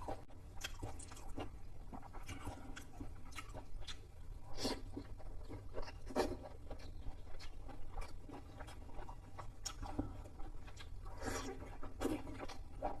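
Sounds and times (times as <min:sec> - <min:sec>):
chewing fried chicken crunches: 0:00.0 - 0:13.0.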